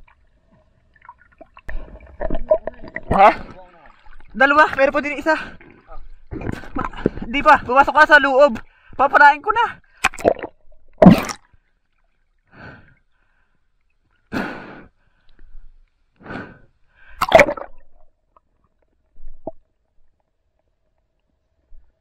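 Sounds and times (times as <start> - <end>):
water splashing and sloshing: 0.0 - 9.0, 9.7 - 14.3, 17.0 - 21.9.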